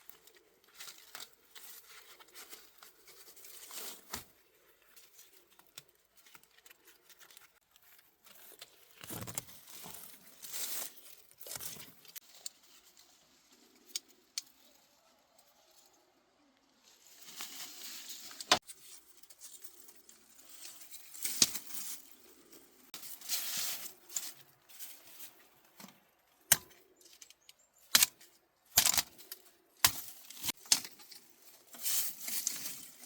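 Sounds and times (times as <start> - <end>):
dry plant material rustling: 0.0 - 27.2, 27.8 - 33.0.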